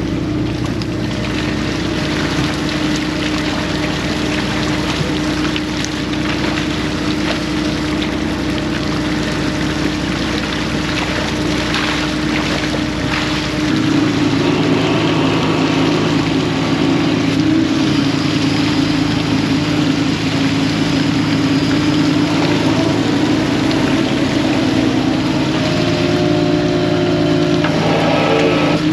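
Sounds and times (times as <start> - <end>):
boat engine running: 0.0 - 28.9.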